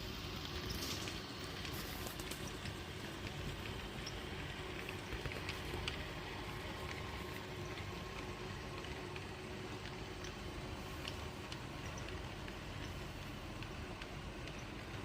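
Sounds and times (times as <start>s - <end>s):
wheels clicking on track: 0.1s - 15.0s.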